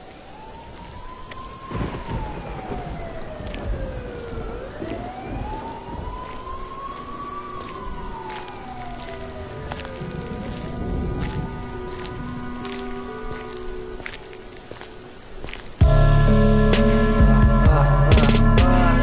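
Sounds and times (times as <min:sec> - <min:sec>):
rain-like hiss with clicks: 0:00.0 - 0:15.9
wailing siren: 0:00.0 - 0:19.0
held musical tones: 0:01.7 - 0:19.0.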